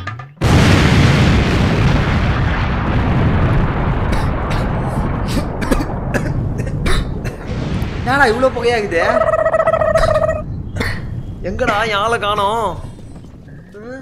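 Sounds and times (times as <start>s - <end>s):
firecracker blast: 0.4s - 13.5s
sharp cracks: 0.4s - 13.5s.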